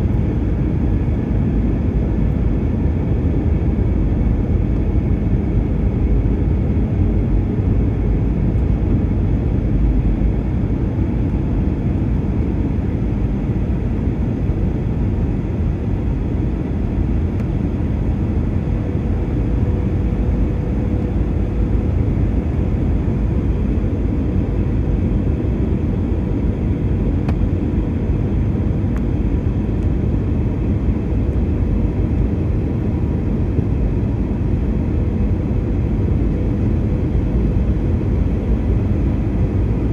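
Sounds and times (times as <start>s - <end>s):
engine and airflow rumble: 0.0s - 39.9s.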